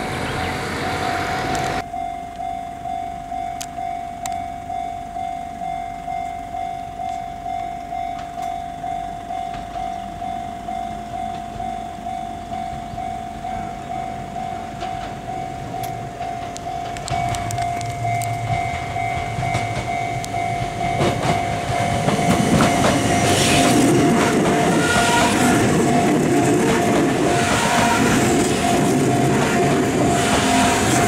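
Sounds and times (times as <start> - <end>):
level crossing warning bell ringing: 0.0 - 31.0.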